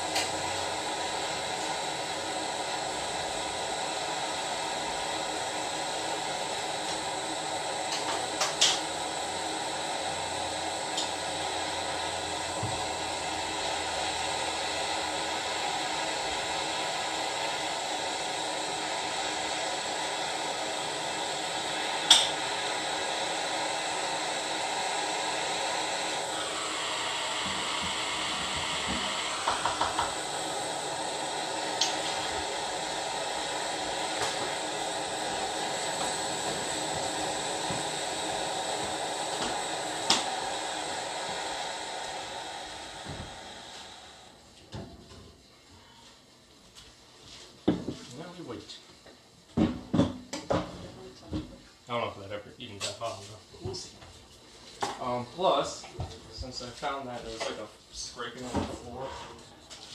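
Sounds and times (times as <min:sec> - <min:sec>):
gas torch flame hissing: 0:00.0 - 0:45.5, 0:54.8 - 0:59.9.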